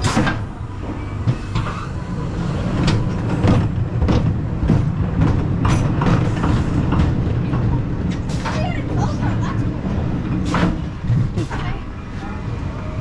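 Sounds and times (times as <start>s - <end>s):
roller coaster wheels rumbling: 0.0s - 13.0s.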